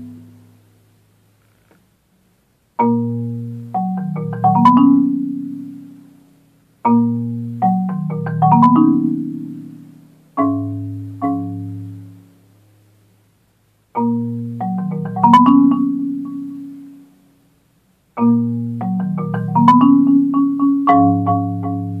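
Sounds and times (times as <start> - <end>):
solo marimba: 0.0 - 0.6, 2.8 - 12.8, 13.9 - 17.4, 18.1 - 22.0.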